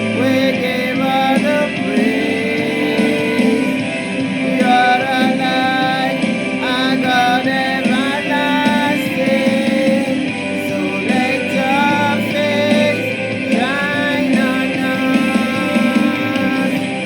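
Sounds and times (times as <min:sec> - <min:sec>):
instrumental accompaniment: 0:00.0 - 0:17.0
person singing worship song: 0:00.0 - 0:17.0.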